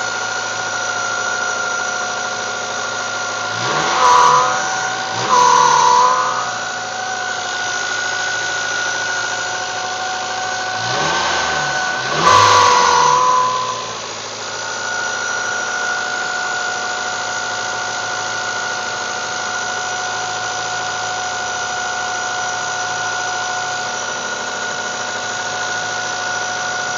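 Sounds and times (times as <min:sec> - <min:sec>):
car engine idling and revving: 0:00.0 - 0:26.9
high-pitched engine whine: 0:00.0 - 0:26.9.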